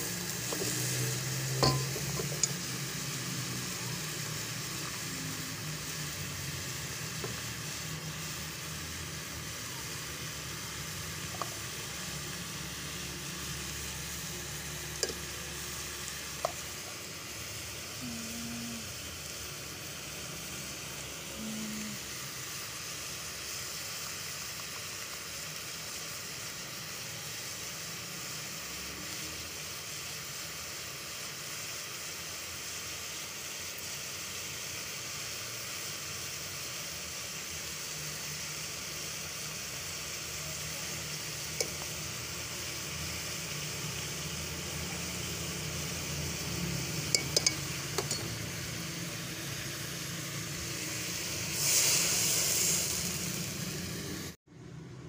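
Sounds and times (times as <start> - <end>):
food sizzling in a pot: 0.0 - 54.4.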